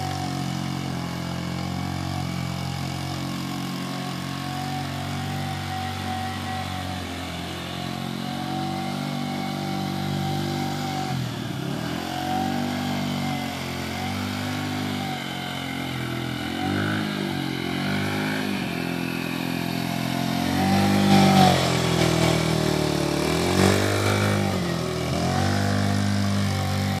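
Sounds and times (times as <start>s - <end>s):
quad bike engine revving: 0.0s - 27.0s.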